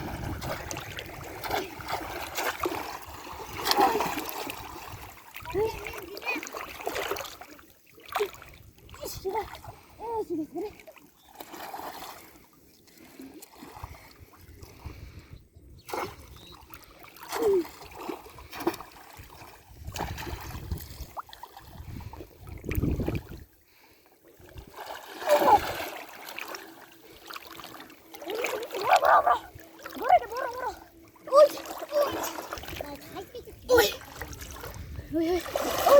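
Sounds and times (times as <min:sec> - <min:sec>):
splashing in shallow water: 0:00.0 - 0:14.8, 0:15.8 - 0:23.5, 0:24.3 - 0:35.9.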